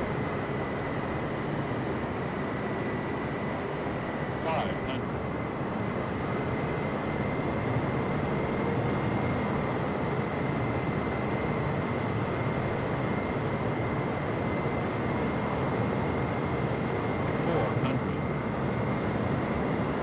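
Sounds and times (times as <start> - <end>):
high engine whine: 0.0 - 20.0.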